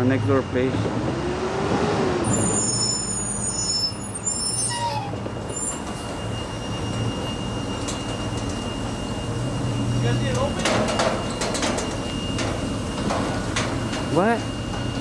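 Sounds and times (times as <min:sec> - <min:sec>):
engine rumble and road noise: 0:00.0 - 0:15.0
short falling squeal: 0:02.2 - 0:15.0.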